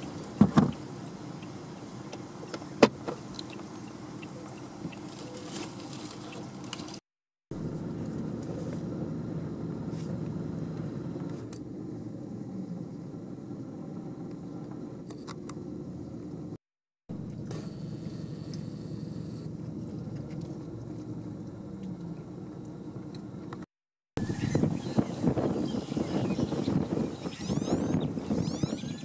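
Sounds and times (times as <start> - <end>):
vehicle engine running: 0.0 - 28.7.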